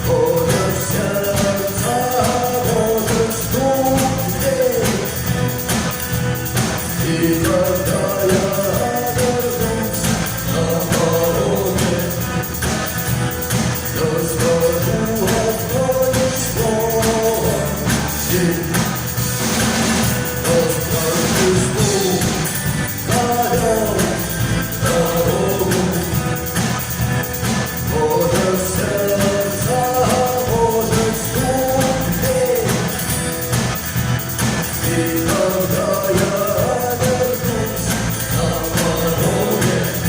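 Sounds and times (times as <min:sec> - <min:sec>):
person singing: 0:00.0 - 0:05.8, 0:06.5 - 0:13.0, 0:13.7 - 0:19.3, 0:20.1 - 0:33.5, 0:34.6 - 0:40.0
drum beat: 0:00.0 - 0:40.0
rock band playing: 0:00.0 - 0:40.0.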